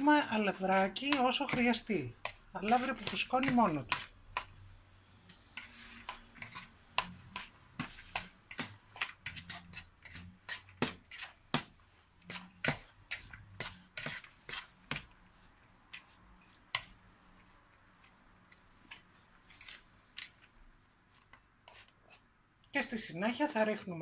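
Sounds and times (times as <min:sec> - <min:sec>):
metal spoon scraping plastic bowl: 0:00.0 - 0:17.4, 0:18.0 - 0:20.6.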